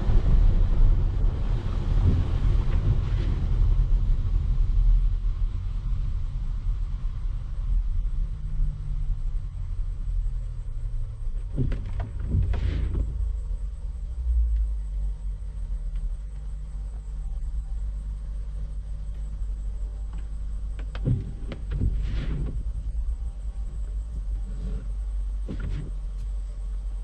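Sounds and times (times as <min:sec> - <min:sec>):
noisy rush of sound: 0:00.0 - 0:27.0
vehicle rumble on road: 0:00.0 - 0:27.0.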